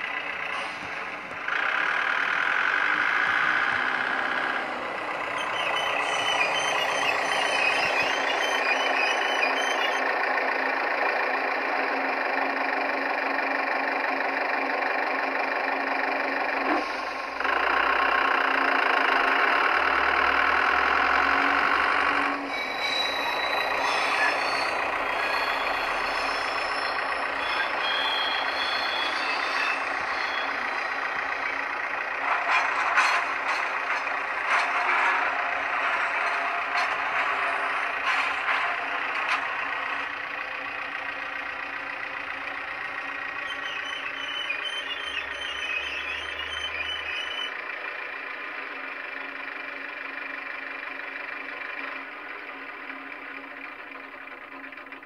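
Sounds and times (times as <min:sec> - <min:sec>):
model diesel engine sound: 0:00.0 - 0:55.0.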